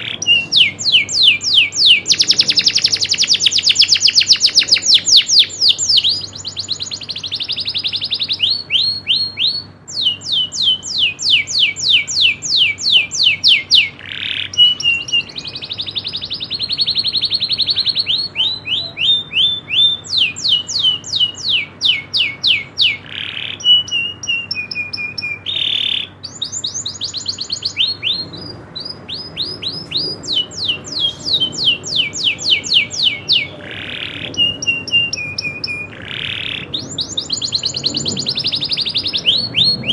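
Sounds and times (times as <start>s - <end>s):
canary trilling: 0.0s - 39.9s
harsh rasping bird notes: 0.0s - 39.9s.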